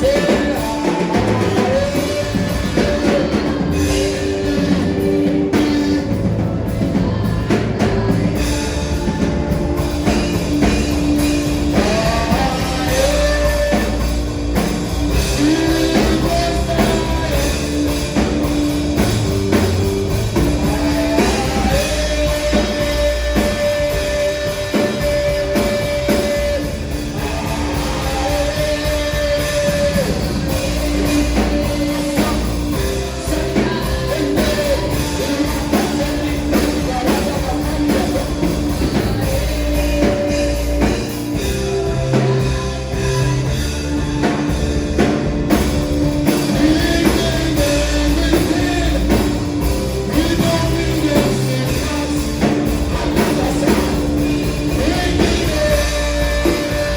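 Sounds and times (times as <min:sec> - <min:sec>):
singing: 0:00.0 - 0:44.5, 0:46.2 - 0:56.9
drum kit: 0:00.0 - 0:56.9
electric guitar: 0:00.0 - 0:56.9
worship band music: 0:00.0 - 0:56.9.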